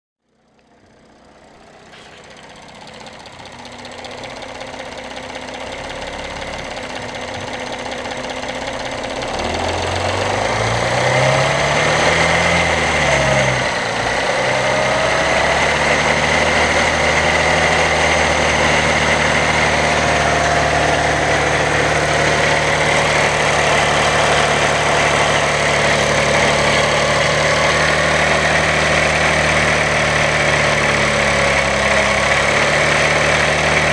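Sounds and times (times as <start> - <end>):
diesel engine running with rattle: 0.2 - 33.9.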